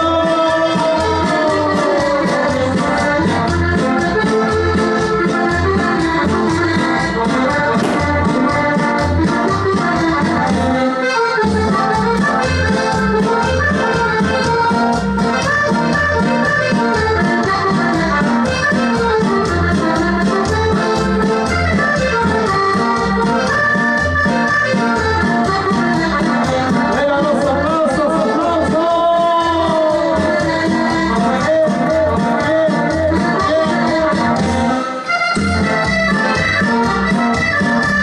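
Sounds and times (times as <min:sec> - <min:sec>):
latin dance music: 0:00.0 - 0:38.0.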